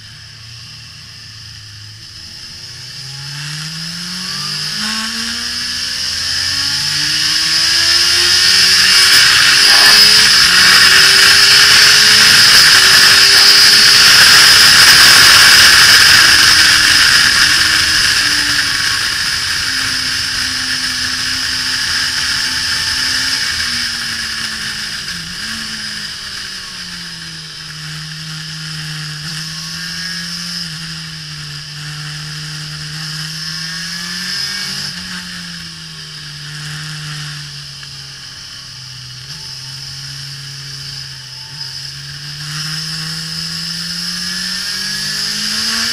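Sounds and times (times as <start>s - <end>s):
motorcycle engine: 0.0s - 45.9s.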